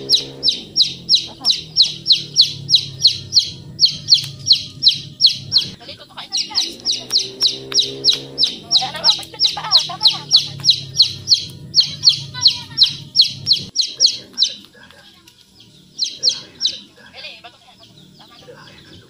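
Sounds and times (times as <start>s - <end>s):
bird chirping rapidly: 0.0s - 19.0s
low steady hum: 0.0s - 19.0s.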